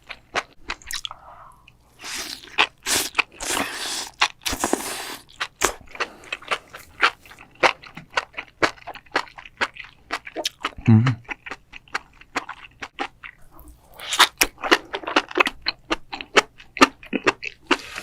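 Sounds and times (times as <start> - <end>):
crunchy chewing of mushrooms: 1.9 - 18.0.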